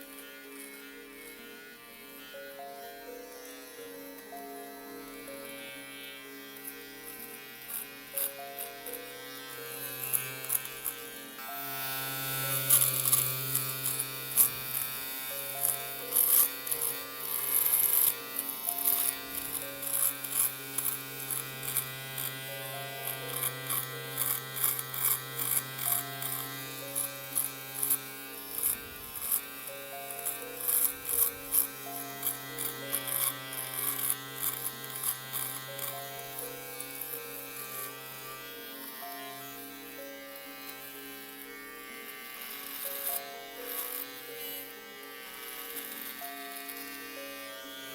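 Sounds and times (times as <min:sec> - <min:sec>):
electric shaver buzzing: 0:00.0 - 0:47.9.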